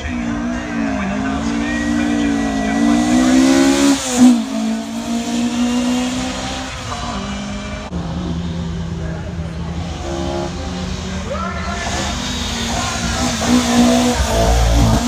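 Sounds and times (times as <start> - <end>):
loud engine burst: 0.0 - 7.8, 8.7 - 15.0
rally car engine pulling hard: 0.0 - 15.0.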